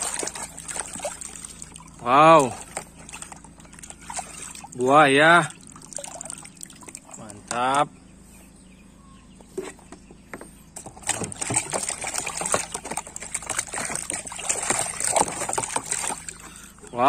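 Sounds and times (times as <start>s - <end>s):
water splashing in a tub: 0.0s - 7.8s, 10.8s - 17.0s.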